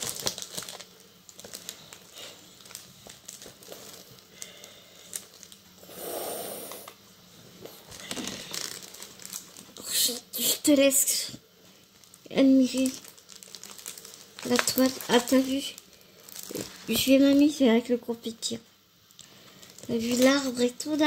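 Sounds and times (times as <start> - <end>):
plastic film crinkling: 0.0 - 5.7, 7.7 - 21.0.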